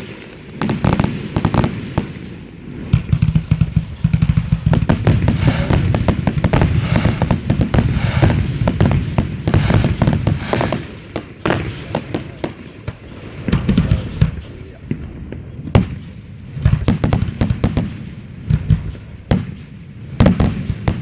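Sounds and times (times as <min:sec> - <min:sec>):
fireworks cracking: 0:00.0 - 0:21.0
low rumble of booms: 0:00.6 - 0:21.0.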